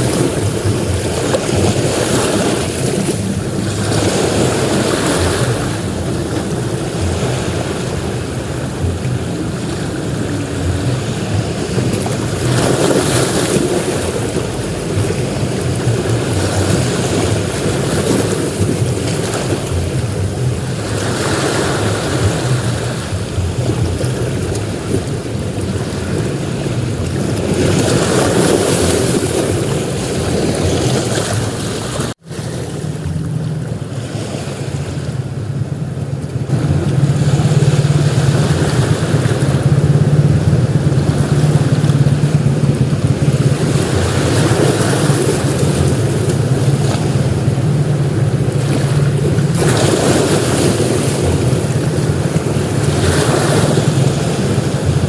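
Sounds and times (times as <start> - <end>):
ocean surf breaking: 0.0 - 55.0
wind rumble on microphone: 0.0 - 55.0.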